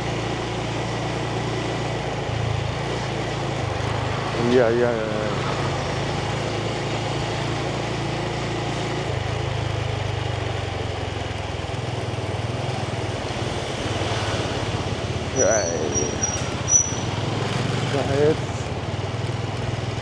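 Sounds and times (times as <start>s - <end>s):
motorbike engine running: 0.0s - 20.0s
road and wind noise: 0.0s - 20.0s.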